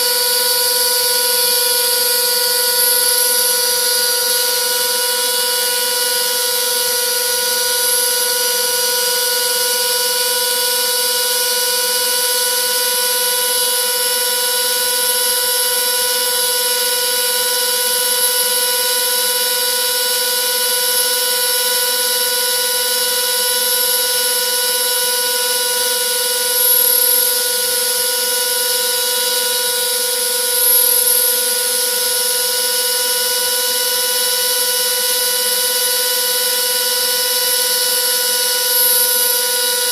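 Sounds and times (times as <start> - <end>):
router bit carving wood: 0.0 - 39.9
router spindle motor whining: 0.0 - 39.9.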